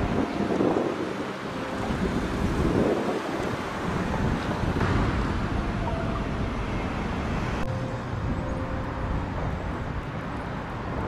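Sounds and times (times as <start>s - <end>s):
street ambience rumble: 0.0s - 11.0s.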